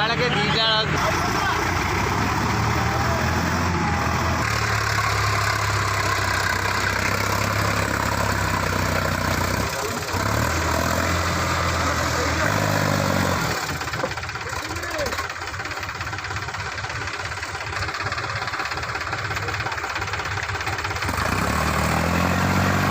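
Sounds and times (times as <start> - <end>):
diesel tractor engine running: 0.0 - 22.9.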